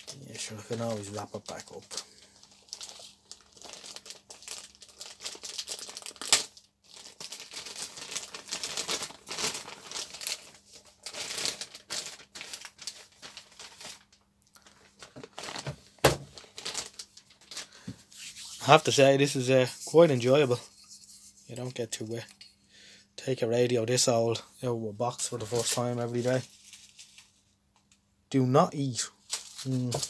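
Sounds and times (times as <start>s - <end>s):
plastic wrapper crinkling: 0.0s - 22.4s, 25.4s - 27.4s, 29.2s - 30.0s.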